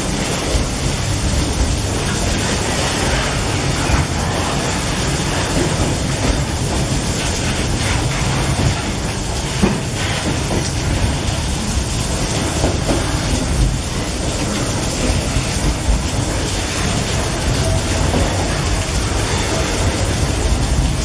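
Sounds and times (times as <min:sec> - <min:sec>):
heavy rain falling: 0:00.0 - 0:21.0
train wheels clattering on rails: 0:00.0 - 0:21.0.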